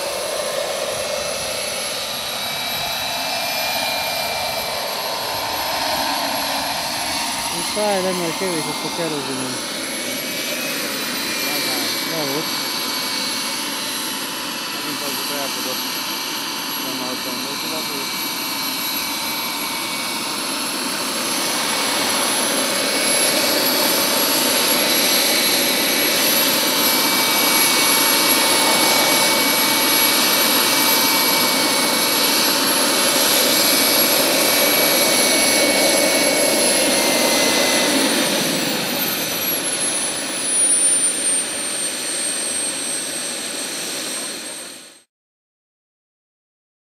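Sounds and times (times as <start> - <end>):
turbine engine whining: 0.0 - 44.9
helicopter rotor noise: 0.0 - 45.1.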